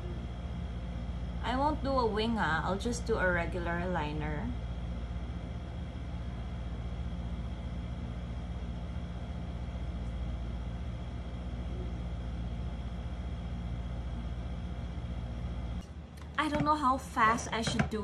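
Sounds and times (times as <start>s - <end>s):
faint high whine: 0.0s - 16.0s
low hum of running motor: 0.0s - 18.0s.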